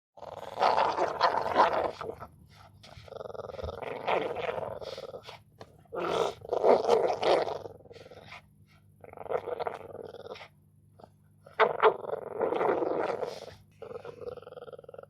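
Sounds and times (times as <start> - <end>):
dogs growling while play-fighting: 0.2 - 10.5, 11.6 - 15.0.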